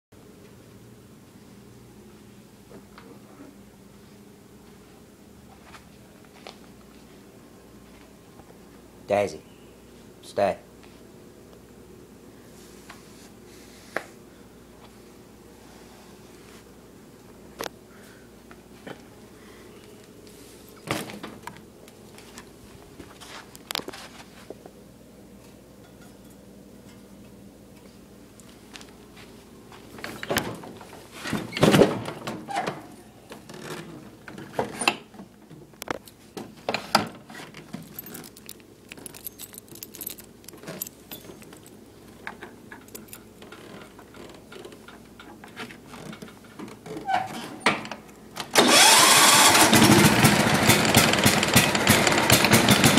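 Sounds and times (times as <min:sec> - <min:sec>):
faint steady hum: 0:00.2 - 0:48.6.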